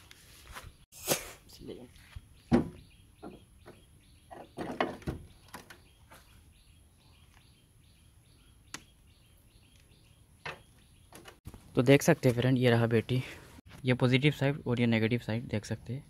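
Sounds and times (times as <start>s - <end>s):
birds chirping: 1.5s - 16.0s.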